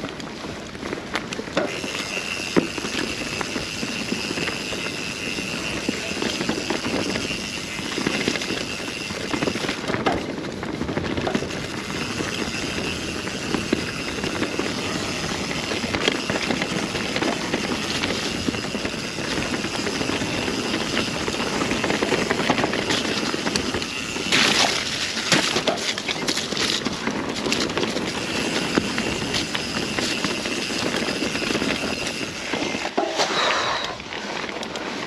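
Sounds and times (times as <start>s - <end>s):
bike rattling: 0.0s - 35.0s
bike tyres rushing on dirt: 0.0s - 35.0s.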